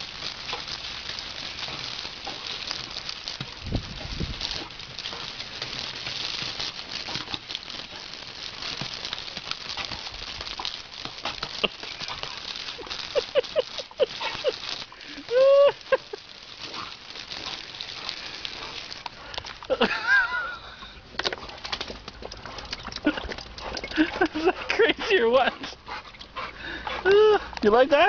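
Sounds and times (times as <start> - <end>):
hose water spattering on paving: 0.0 - 28.0.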